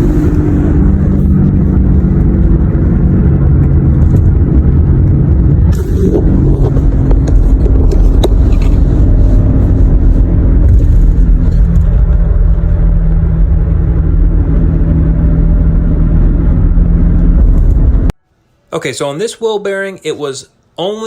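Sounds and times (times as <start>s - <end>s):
road rumble: 0.0s - 18.2s
wheel bearing drone: 0.0s - 18.2s.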